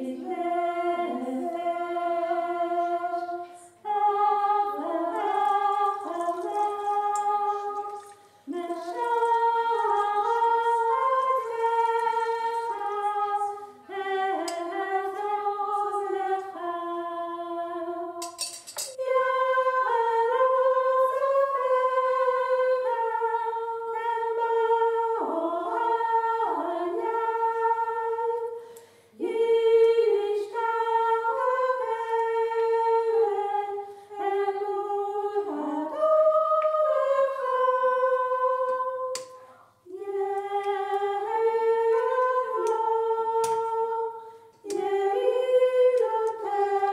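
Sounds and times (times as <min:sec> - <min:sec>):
woman singing wordless melody: 0:00.0 - 0:28.6, 0:29.2 - 0:46.9.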